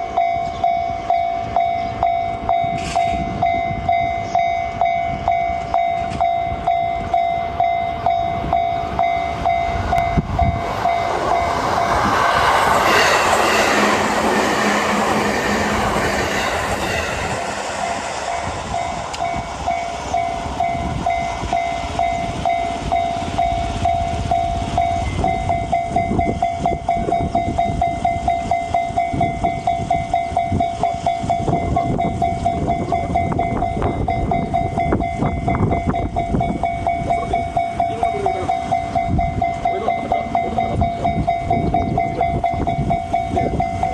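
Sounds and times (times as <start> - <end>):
level-crossing bell clanging: 0.0 - 43.9
train passing: 0.0 - 43.9.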